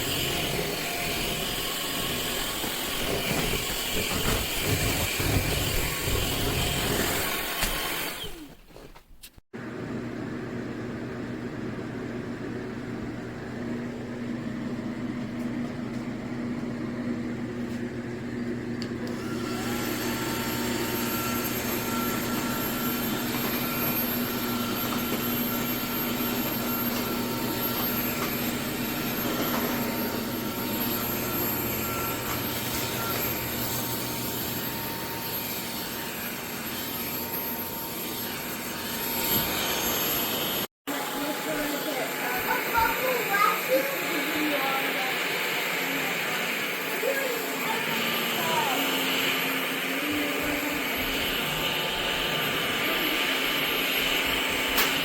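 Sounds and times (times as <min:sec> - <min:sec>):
stick vacuum running: 0:00.0 - 0:08.9, 0:09.6 - 0:55.0.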